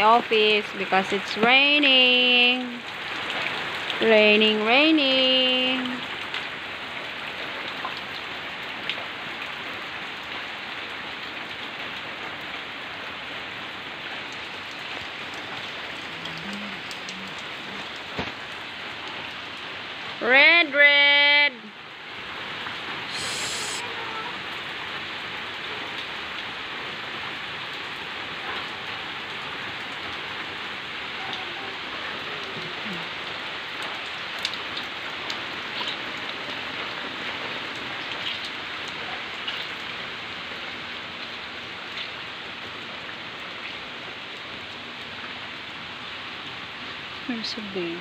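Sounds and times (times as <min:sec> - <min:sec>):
rain on concrete and plants: 0:00.0 - 0:48.0.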